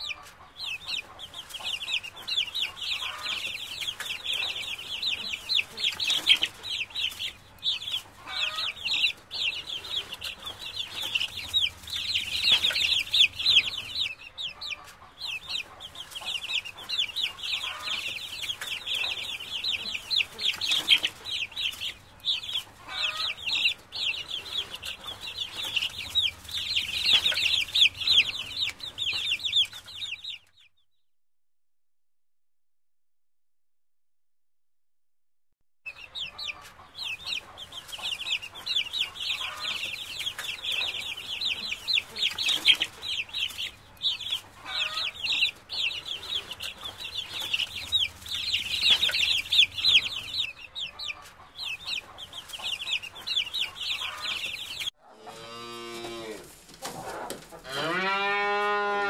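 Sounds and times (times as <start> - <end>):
ducklings peeping: 0.0 - 30.9, 35.9 - 59.0.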